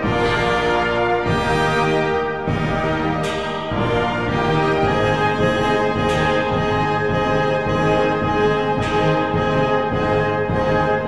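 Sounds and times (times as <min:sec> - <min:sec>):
brass long held notes: 0:00.0 - 0:11.0.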